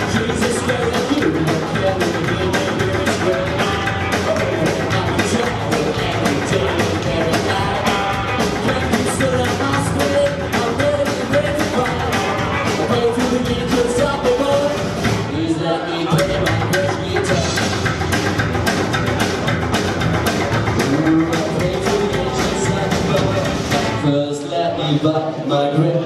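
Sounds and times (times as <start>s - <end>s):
steady drum beat: 0.0s - 24.1s
rock and roll band playing: 0.0s - 25.2s.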